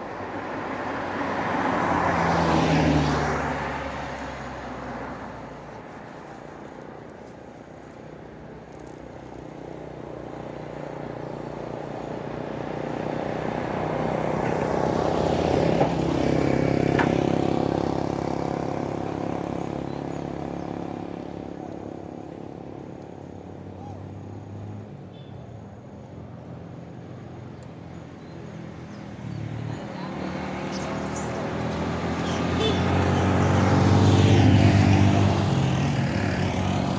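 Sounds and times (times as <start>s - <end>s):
motor vehicle passing: 0.0s - 6.9s, 9.2s - 24.9s, 26.5s - 36.9s.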